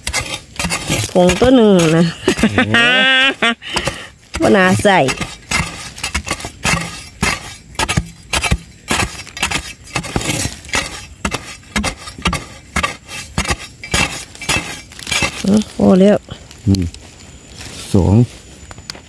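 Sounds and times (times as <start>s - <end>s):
digging blade chopping stony earth: 0.0s - 16.0s
soil and stones clinking: 0.0s - 18.0s.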